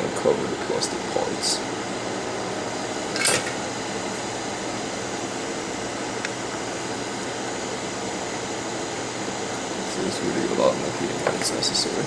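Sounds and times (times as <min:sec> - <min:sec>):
hot-air station hissing: 0:00.0 - 0:12.0.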